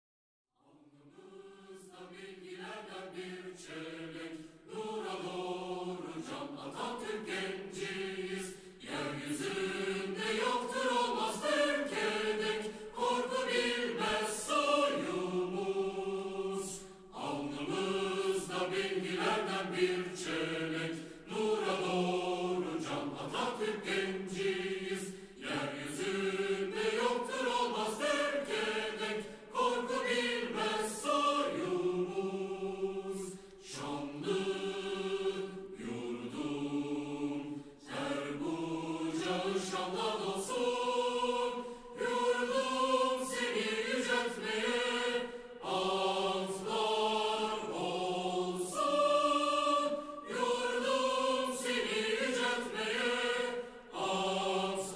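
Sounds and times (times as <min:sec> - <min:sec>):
choir singing with music: 0:00.6 - 0:54.9.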